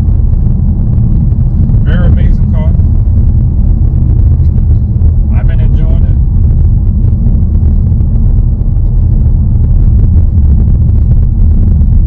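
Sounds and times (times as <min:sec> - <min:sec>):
car engine low rumble: 0:00.0 - 0:12.0
road noise: 0:00.0 - 0:12.0.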